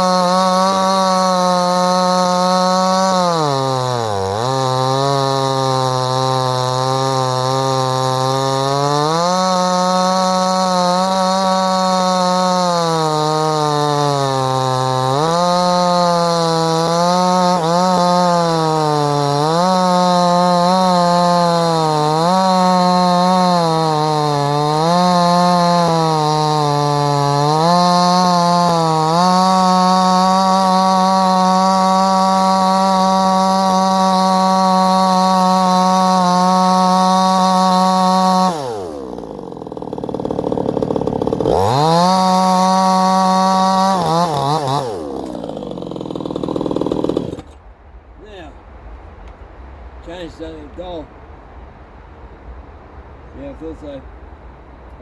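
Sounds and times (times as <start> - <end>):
chainsaw cutting wood: 0.0 - 47.6.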